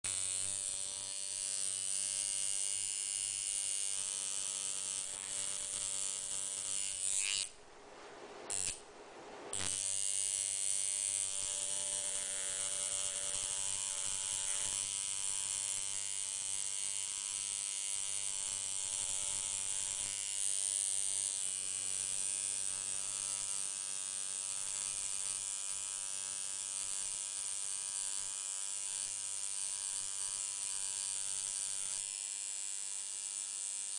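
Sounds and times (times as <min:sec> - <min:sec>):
small motor buzzing: 0:00.0 - 0:07.6, 0:09.5 - 0:33.9.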